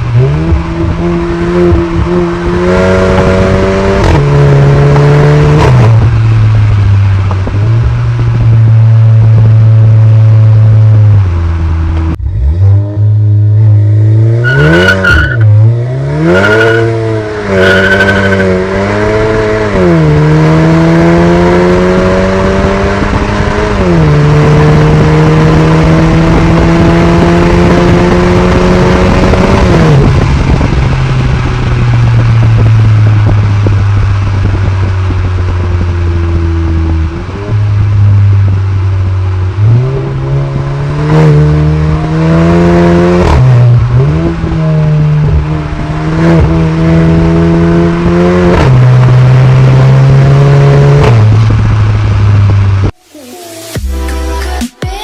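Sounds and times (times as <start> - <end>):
car engine under load: 0.0 - 53.1.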